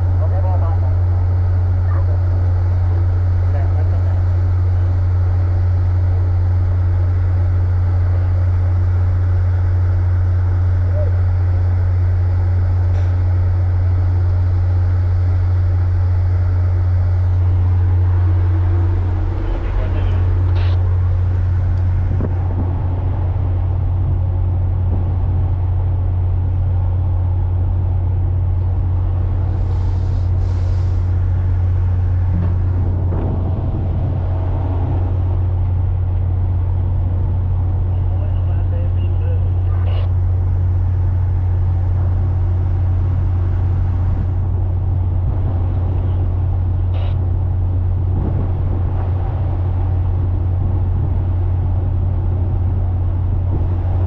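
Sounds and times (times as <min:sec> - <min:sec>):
ship diesel engine drone: 0:00.0 - 0:54.0.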